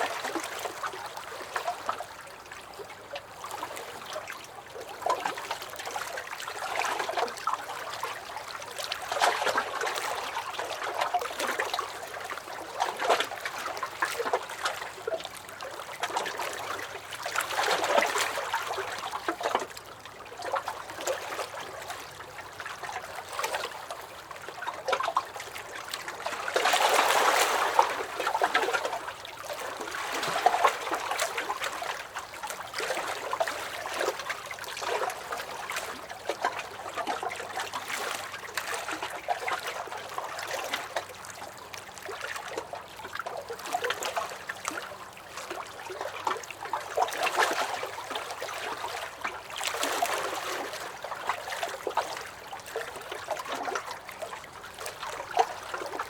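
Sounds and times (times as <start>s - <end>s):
waves lapping against dock: 0.0s - 56.0s.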